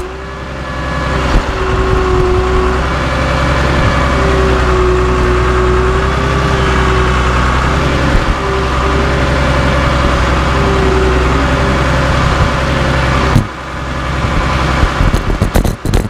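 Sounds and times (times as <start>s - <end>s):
diesel engine running: 0.0s - 16.0s
wavering whine: 0.0s - 16.0s.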